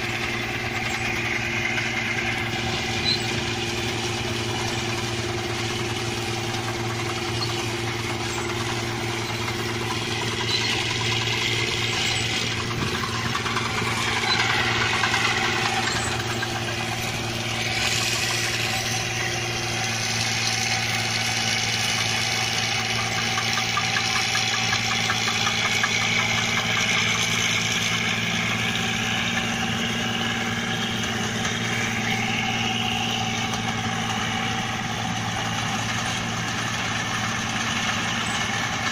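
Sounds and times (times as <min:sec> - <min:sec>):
combine harvester engine drone: 0:00.0 - 0:38.9
mechanical clatter: 0:00.0 - 0:38.9.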